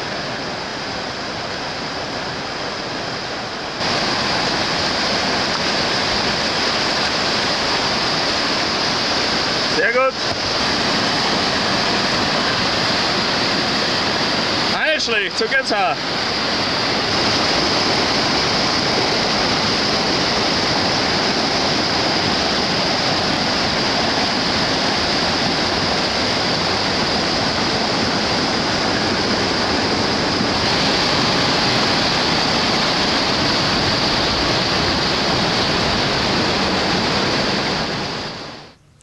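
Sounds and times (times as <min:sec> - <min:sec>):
river rapids roaring: 0:00.0 - 0:38.8.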